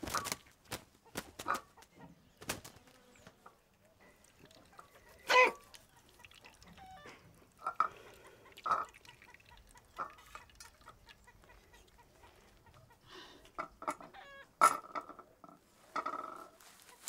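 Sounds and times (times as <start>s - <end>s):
chicken clucking: 0.1s - 15.4s.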